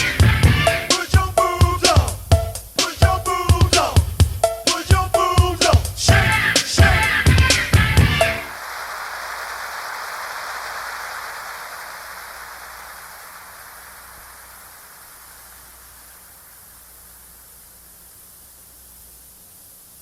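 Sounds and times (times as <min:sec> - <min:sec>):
faint hum: 0:00.0 - 0:20.0
recording hiss: 0:00.0 - 0:20.0.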